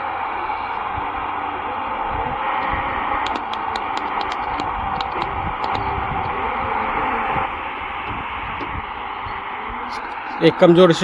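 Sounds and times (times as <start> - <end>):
radio static hiss: 0.0 - 11.0
crackling clicks: 0.1 - 11.0.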